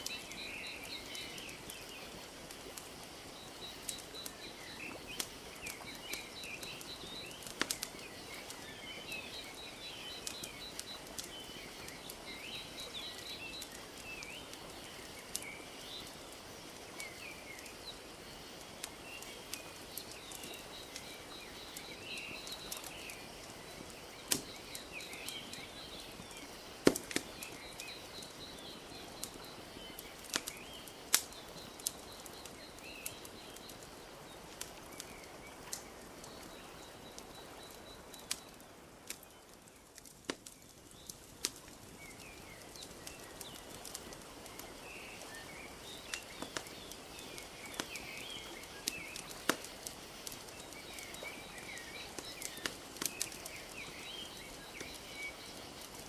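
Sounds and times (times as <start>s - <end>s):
small birds chirping: 0.0s - 56.0s
wood fire crackling and popping: 0.0s - 56.0s.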